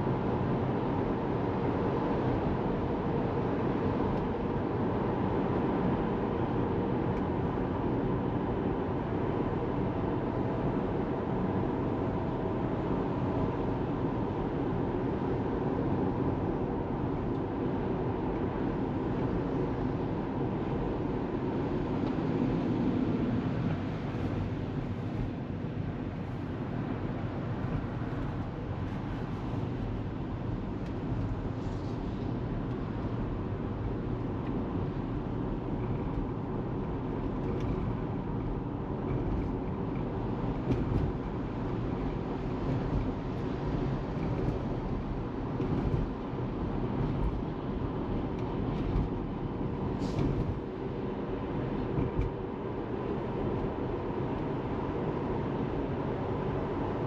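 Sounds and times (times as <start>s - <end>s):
road and tyre noise: 0.0s - 57.0s.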